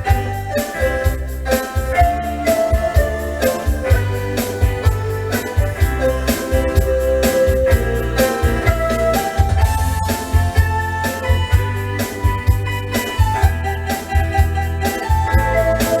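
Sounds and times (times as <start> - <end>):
electronic organ pop tune: 0.0 - 16.0.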